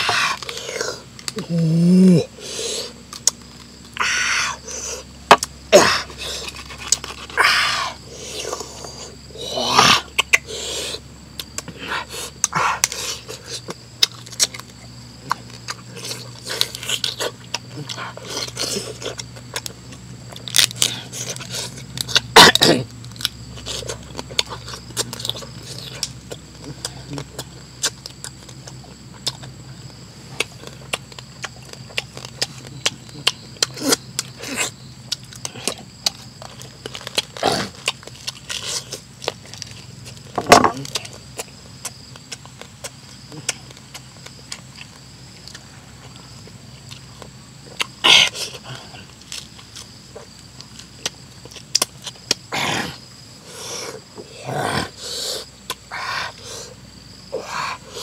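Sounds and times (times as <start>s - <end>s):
person chewing food: 0.0s - 54.2s
faint high hum: 0.0s - 58.0s.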